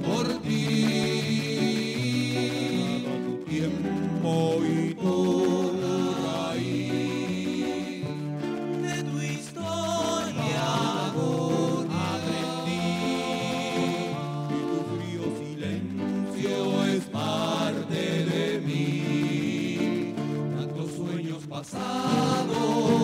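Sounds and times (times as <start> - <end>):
instrumental backing: 0.0 - 23.0
person singing: 0.0 - 23.0.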